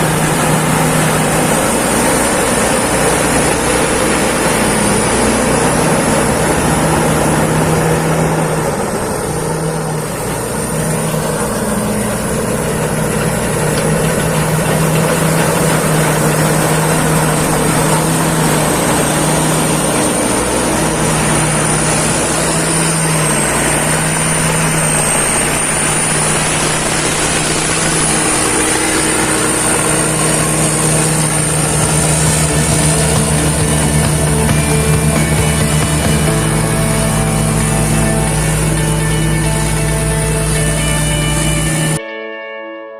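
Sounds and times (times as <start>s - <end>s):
combine harvester engine humming: 0.0s - 42.0s
high thin whine: 0.0s - 42.0s.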